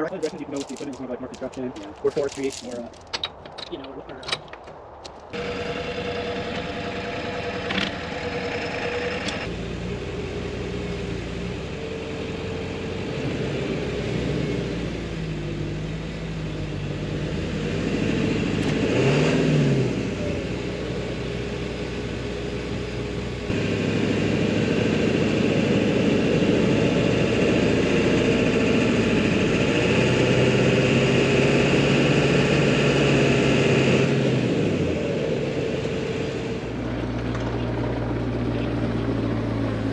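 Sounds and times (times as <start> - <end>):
construction machine engine running: 5.3 - 18.9, 19.5 - 39.9.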